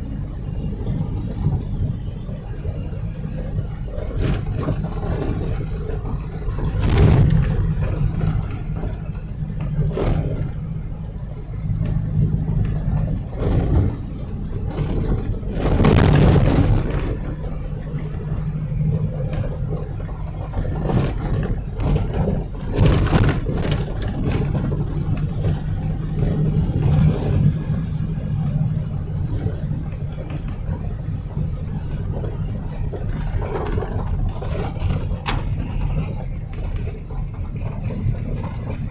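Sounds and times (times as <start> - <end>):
vehicle engine and road drone: 0.0 - 38.9.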